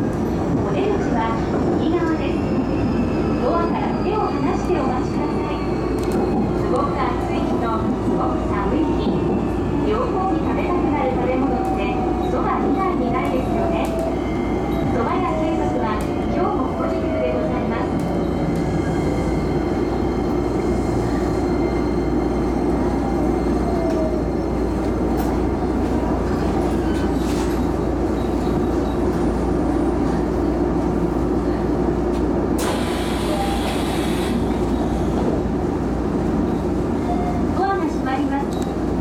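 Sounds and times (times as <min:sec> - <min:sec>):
train hum and rumble: 0:00.0 - 0:39.0.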